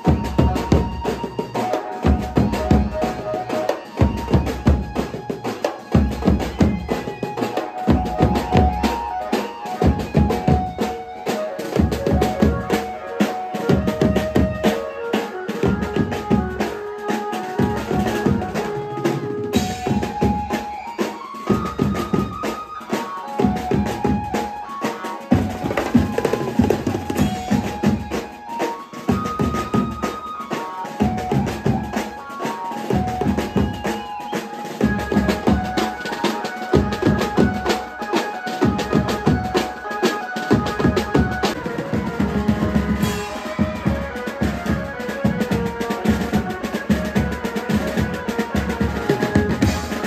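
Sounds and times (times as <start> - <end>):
drums in fast dance rhythm: 0.0 - 50.0
electronic keyboard melody: 0.0 - 50.0.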